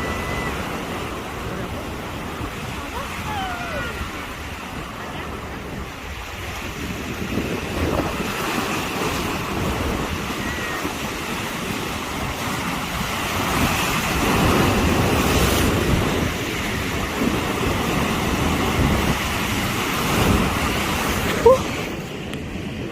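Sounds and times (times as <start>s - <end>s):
sea waves breaking: 0.0s - 22.9s
wind buffeting microphone: 0.0s - 22.9s.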